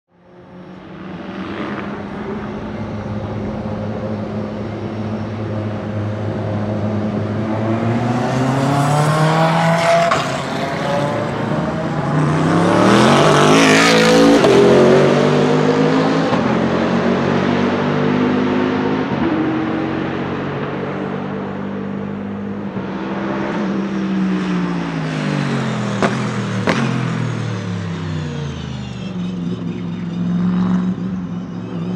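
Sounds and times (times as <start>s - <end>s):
race car accelerating past: 0.5s - 31.9s.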